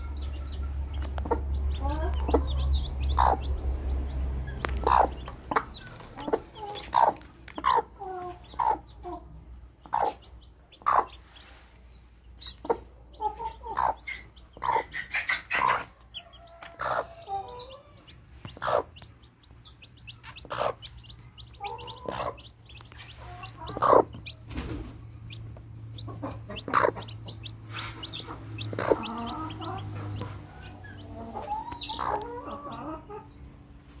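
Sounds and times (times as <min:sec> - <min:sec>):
chicks peeping: 0:00.0 - 0:34.0
hen clucking: 0:00.0 - 0:34.0.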